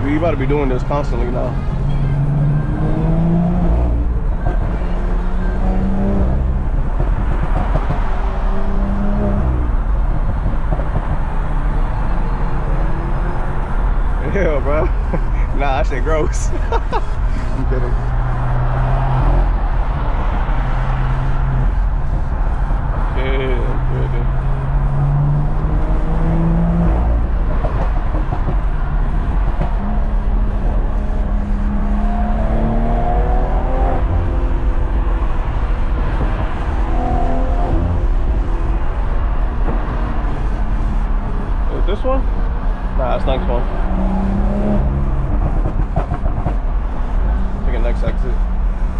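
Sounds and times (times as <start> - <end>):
road and wind noise: 0.0 - 48.9.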